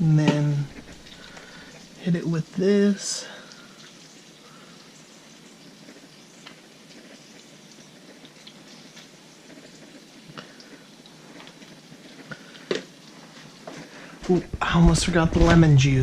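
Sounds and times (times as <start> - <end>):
fish frying in a pan: 0.0 - 14.3.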